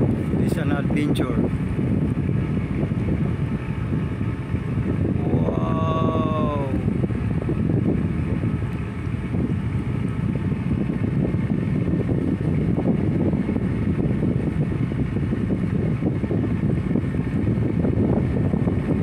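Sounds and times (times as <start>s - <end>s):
boat engine droning: 0.0s - 19.0s
wind rumble on microphone: 0.0s - 19.0s.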